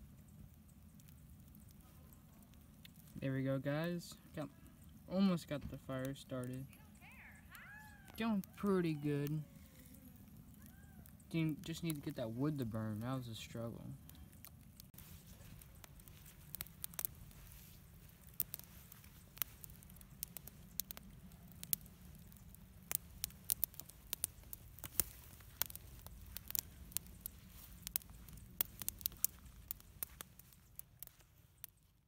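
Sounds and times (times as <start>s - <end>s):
low steady rumble: 0.0s - 31.0s
campfire crackling and popping: 0.0s - 32.0s.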